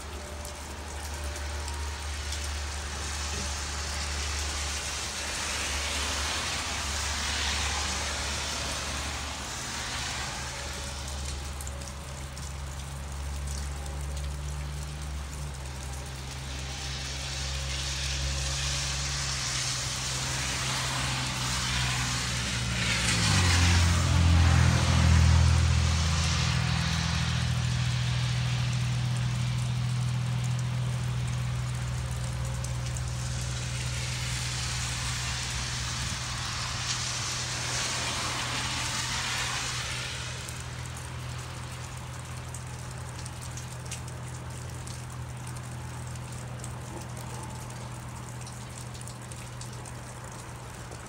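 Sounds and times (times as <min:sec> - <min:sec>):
low engine hum: 0:00.0 - 0:51.0
vehicles passing: 0:00.0 - 0:51.0.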